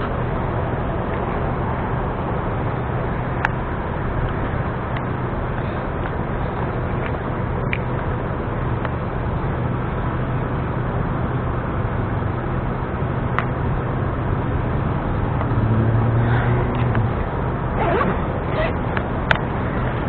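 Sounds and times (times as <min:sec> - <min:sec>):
road traffic hum: 0:00.0 - 0:20.0.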